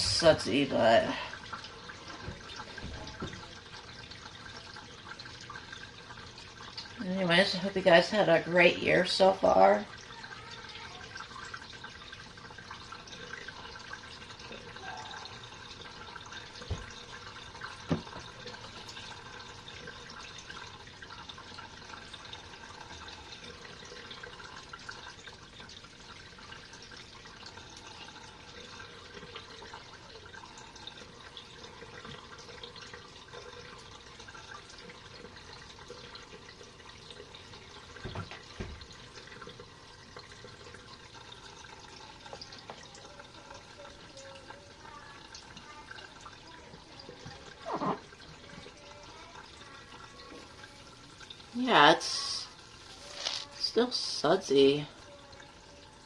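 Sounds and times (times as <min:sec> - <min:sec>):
water draining in washing machine: 0:00.0 - 0:56.0.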